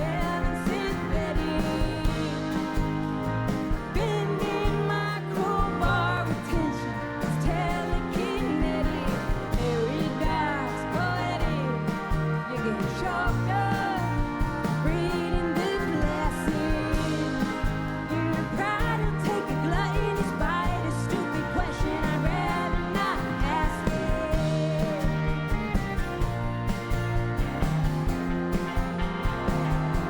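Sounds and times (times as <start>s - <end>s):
person singing: 0.0s - 2.9s, 3.8s - 25.4s
live country-rock band: 0.0s - 30.0s.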